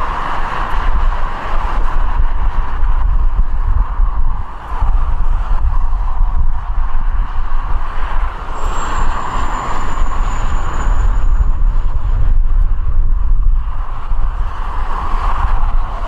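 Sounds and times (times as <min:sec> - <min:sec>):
high engine whine: 0:00.0 - 0:16.0
wind buffeting microphone: 0:00.0 - 0:16.0.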